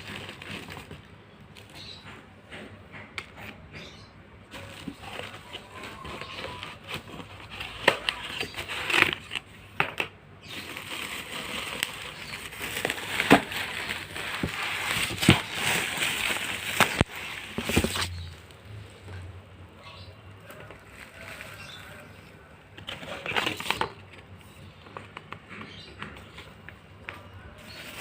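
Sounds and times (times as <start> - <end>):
packaging crackling and rustling: 0.0 - 2.0, 4.5 - 19.2, 20.4 - 25.8, 27.6 - 28.0.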